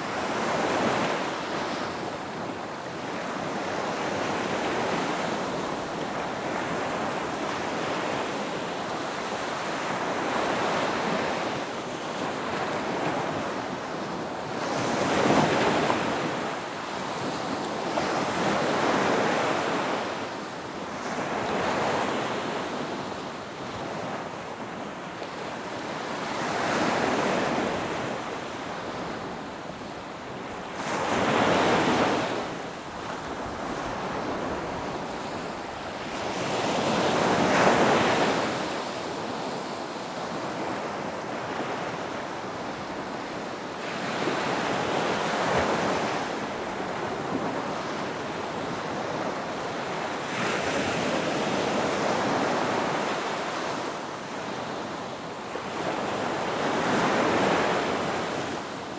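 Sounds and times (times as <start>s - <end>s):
ocean waves breaking on beach: 0.0s - 58.9s.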